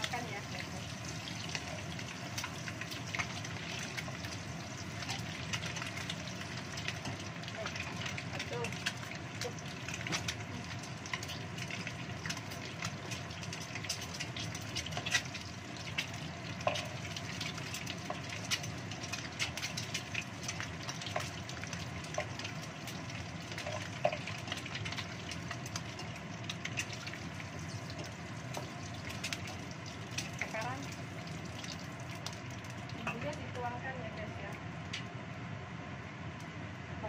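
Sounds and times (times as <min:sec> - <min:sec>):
eggs sizzling in hot oil: 0:00.0 - 0:35.2.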